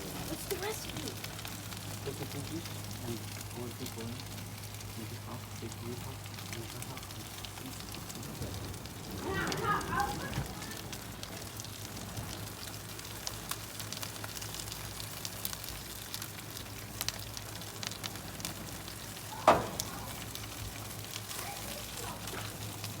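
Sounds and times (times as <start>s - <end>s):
crackles and pops: 0.0s - 23.0s
food sizzling on a grill: 0.0s - 23.0s.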